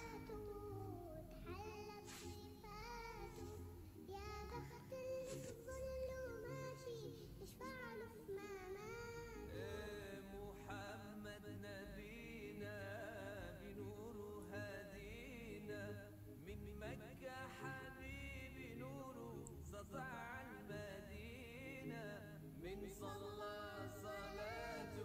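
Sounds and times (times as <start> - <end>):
faint music with singing: 0.0 - 25.0.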